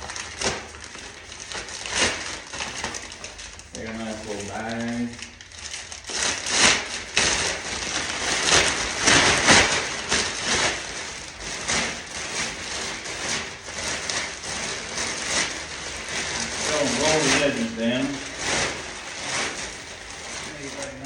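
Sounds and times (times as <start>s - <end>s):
plastic bag rustling: 0.0s - 21.0s.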